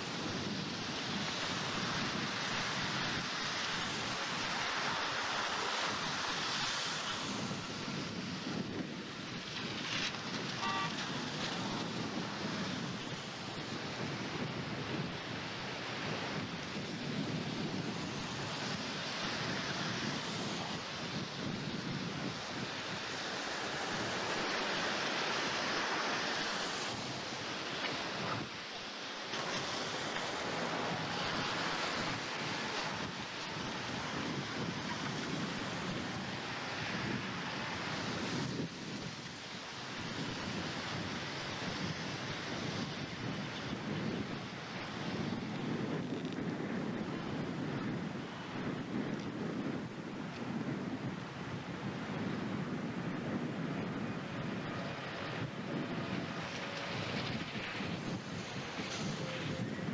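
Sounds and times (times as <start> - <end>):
strong wind on microphone: 0.0 - 59.9.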